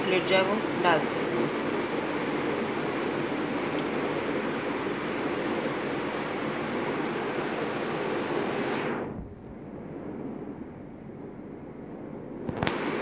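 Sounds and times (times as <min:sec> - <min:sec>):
faint low hum: 0:00.0 - 0:13.0
steady rushing noise: 0:00.4 - 0:13.0.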